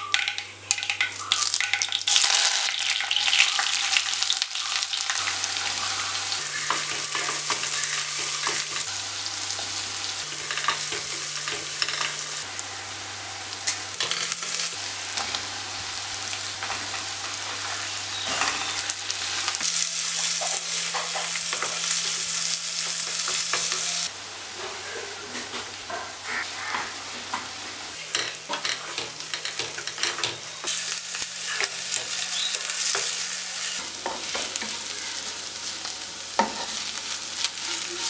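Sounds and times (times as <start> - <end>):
vegetables sizzling in oil: 0.7 - 24.6, 25.7 - 38.0.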